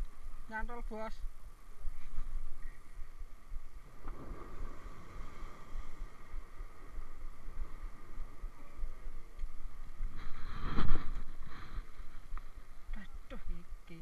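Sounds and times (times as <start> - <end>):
surf: 0.0 - 14.0
wind on microphone: 0.0 - 14.0.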